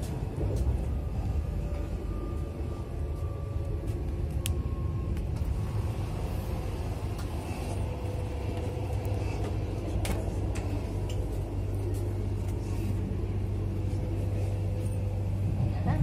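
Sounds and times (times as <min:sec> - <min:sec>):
train interior rumble and hum: 0:00.0 - 0:16.0.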